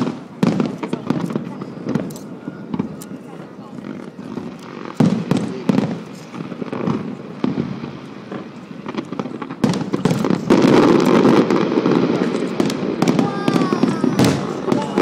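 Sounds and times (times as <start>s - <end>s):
fireworks cracking and banging: 0.0s - 15.0s.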